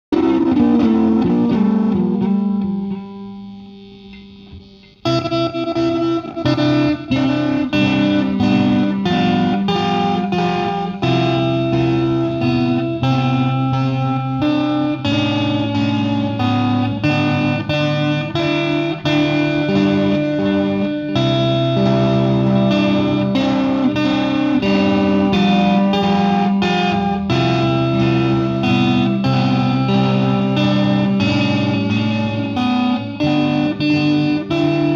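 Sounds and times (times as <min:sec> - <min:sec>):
guitar chords strummed: 0:00.1 - 0:34.9.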